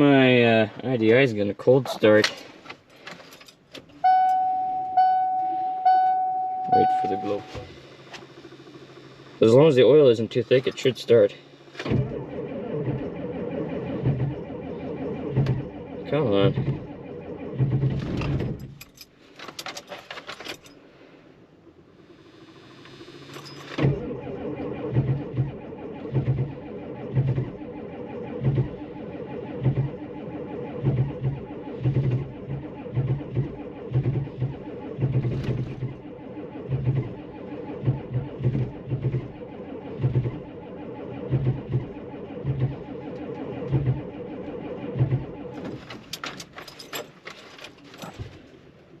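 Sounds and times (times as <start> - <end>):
diesel engine cranking slowly: 0.0 - 49.0.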